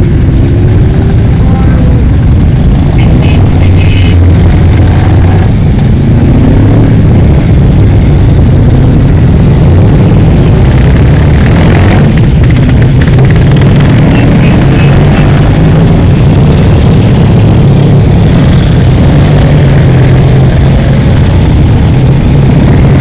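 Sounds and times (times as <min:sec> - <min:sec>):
motorcycle engines rumbling: 0:00.0 - 0:23.0.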